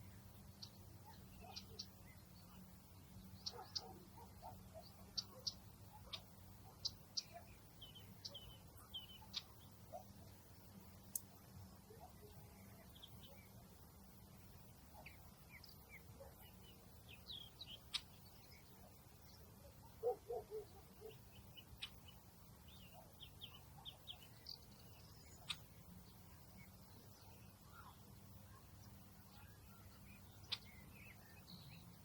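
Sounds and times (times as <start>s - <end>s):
faint bird chirps: 0.0s - 32.0s.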